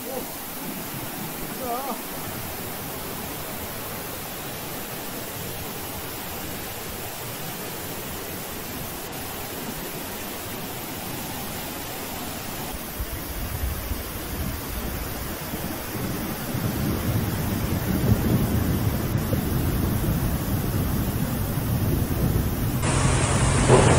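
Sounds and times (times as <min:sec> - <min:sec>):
flood water rushing: 0:00.0 - 0:23.9.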